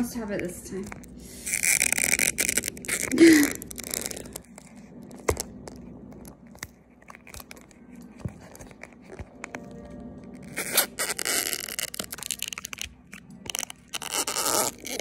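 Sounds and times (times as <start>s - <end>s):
phone case scraping and crackling: 0.7s - 15.0s.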